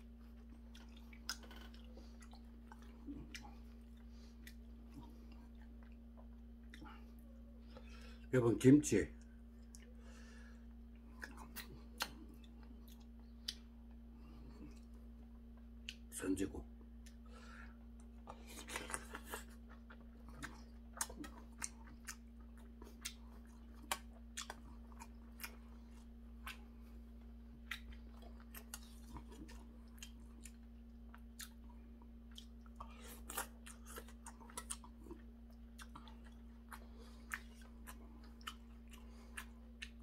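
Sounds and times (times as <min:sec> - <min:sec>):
man chewing food: 0:00.0 - 0:08.3, 0:09.2 - 0:16.1, 0:16.7 - 0:40.0
steady low hum: 0:00.0 - 0:40.0.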